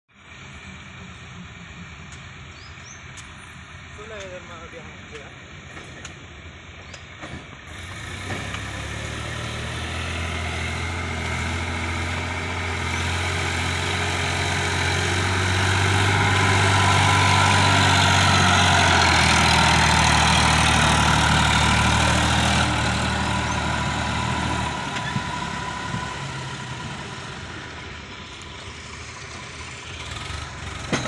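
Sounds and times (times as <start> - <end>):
tractor diesel engine running: 0.1 - 31.0.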